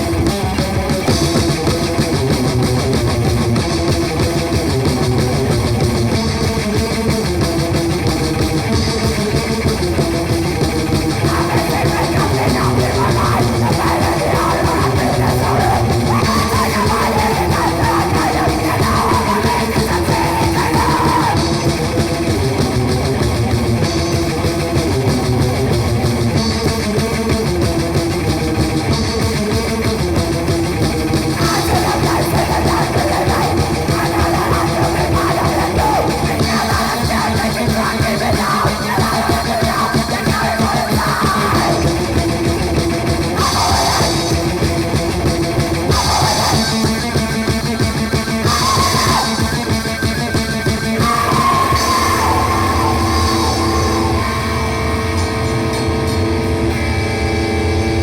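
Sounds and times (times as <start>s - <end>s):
fast dense drums: 0.0s - 57.2s
grindcore with distorted guitar: 0.0s - 58.0s.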